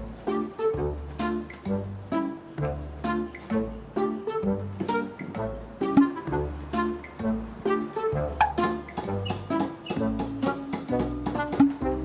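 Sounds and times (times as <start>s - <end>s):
bouncy tune with bass line: 0.0s - 12.0s.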